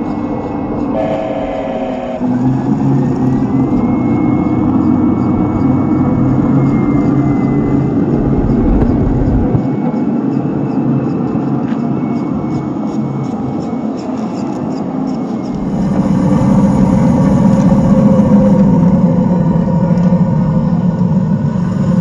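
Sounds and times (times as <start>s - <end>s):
thin motor whine: 0.0s - 22.0s
toy tank engine drone: 0.0s - 22.0s.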